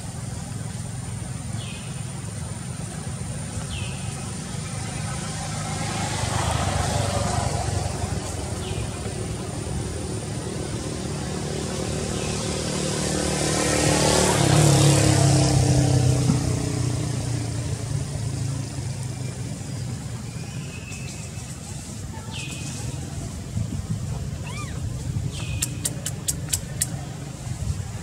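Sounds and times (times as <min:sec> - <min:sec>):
passing vehicle engine: 0:00.0 - 0:28.0.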